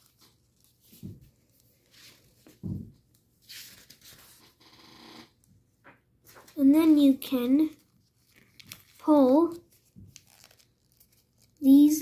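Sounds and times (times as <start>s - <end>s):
paper rustling and crinkling: 0.0s - 4.6s, 6.2s - 12.0s.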